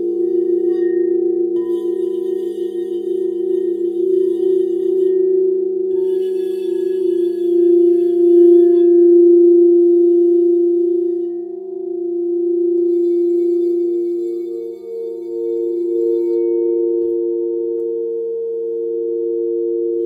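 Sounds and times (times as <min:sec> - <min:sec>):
crystal singing bowls ringing: 0:00.0 - 0:20.0.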